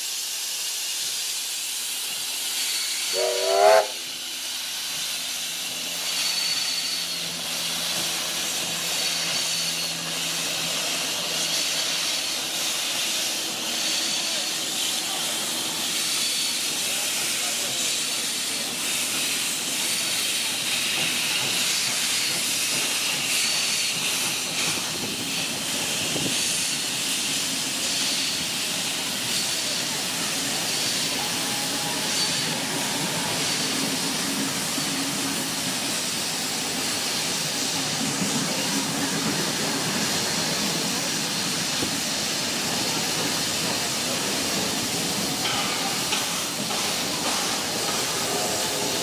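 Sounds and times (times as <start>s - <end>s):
steam jetting: 0.0s - 49.0s
steam locomotive hissing: 0.0s - 49.0s
carriages rolling on rails: 4.0s - 49.0s.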